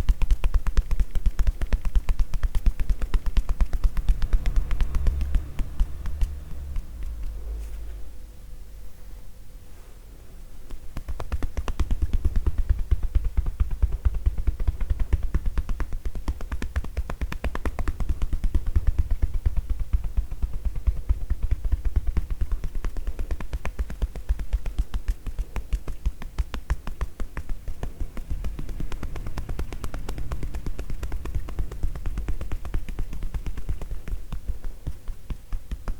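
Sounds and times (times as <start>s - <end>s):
hands tapping on body: 0.0s - 7.5s, 10.7s - 35.9s.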